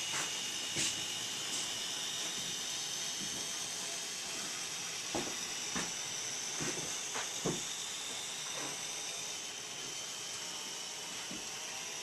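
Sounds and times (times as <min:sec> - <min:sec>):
model locomotive hiss and whine: 0:00.0 - 0:12.0.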